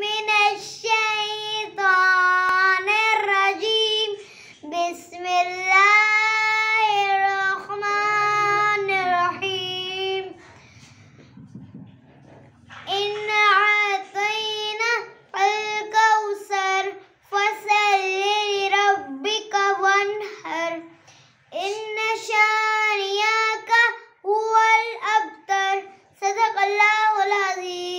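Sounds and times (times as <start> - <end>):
girl singing unaccompanied: 0.0 - 11.0, 12.7 - 27.9.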